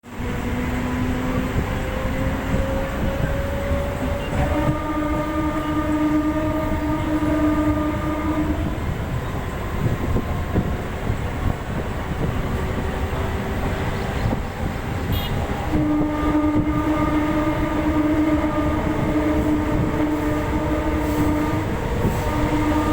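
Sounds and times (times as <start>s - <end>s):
rising tone of train: 0.0s - 22.9s
train rumbling: 0.0s - 22.9s.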